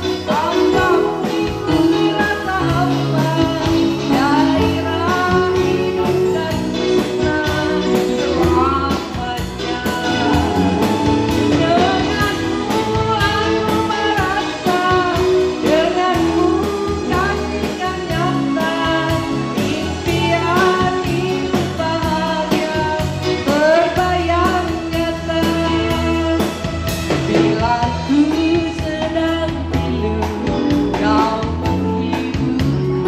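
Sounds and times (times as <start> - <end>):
amplified backing music with bass: 0.0 - 33.0
woman singing into a microphone: 0.0 - 33.0.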